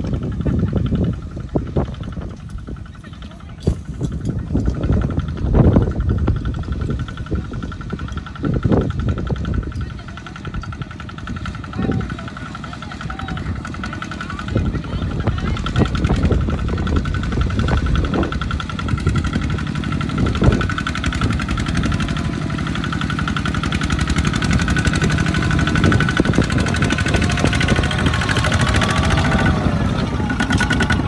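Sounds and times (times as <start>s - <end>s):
diesel walking tractor engine knocking: 0.0s - 31.0s
tractor engines behind: 0.0s - 31.0s.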